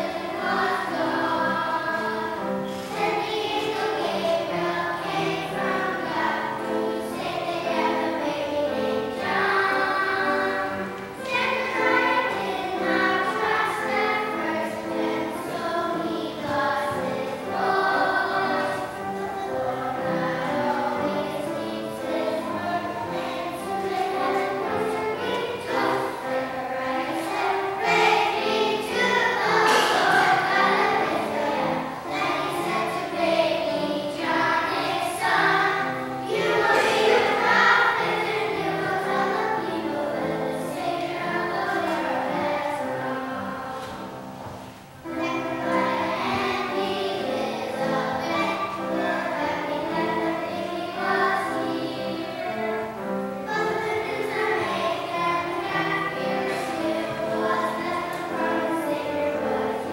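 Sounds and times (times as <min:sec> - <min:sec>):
children's choir singing a hymn: 0:00.0 - 0:59.9.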